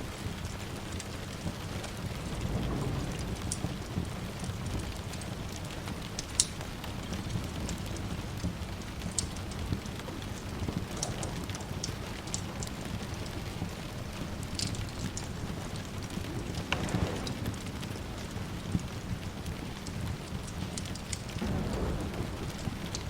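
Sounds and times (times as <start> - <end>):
steady rain: 0.0 - 23.0
wood fire crackling: 0.0 - 23.0
distant thunder rumble: 1.3 - 23.0.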